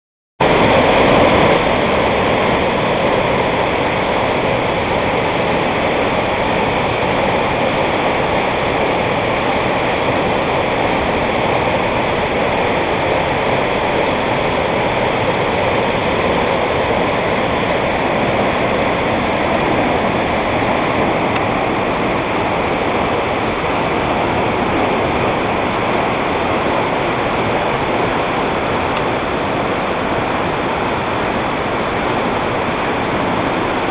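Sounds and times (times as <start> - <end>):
waterfall rushing onto rocks: 0.4 - 33.9.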